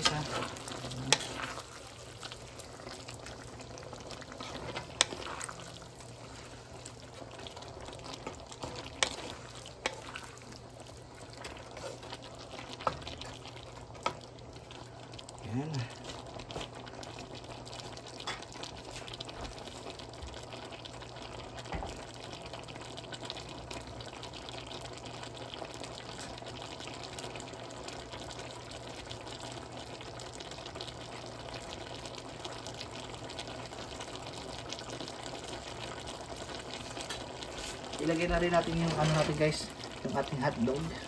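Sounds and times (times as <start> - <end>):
stew bubbling and crackling: 0.0 - 41.0.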